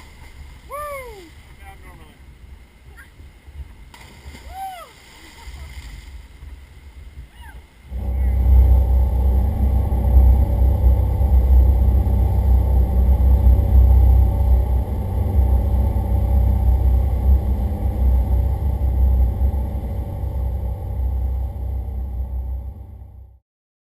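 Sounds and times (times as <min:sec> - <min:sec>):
boat engine low rumble: 0:00.0 - 0:23.4.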